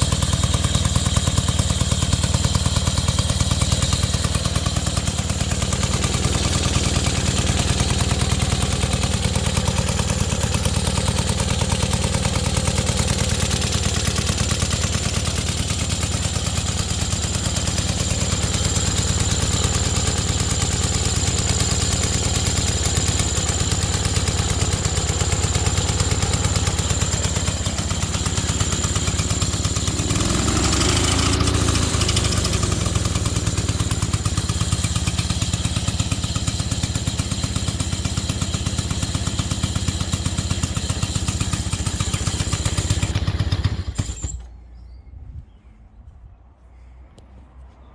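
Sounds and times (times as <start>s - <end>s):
lawnmower engine running: 0.0s - 44.6s.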